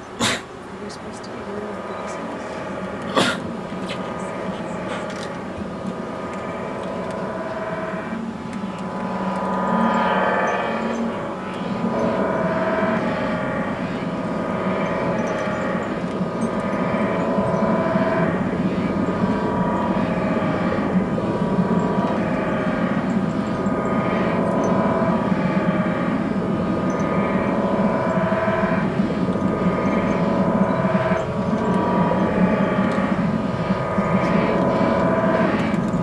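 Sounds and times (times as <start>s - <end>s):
layered synthesizer drone tones: 0.0s - 36.0s.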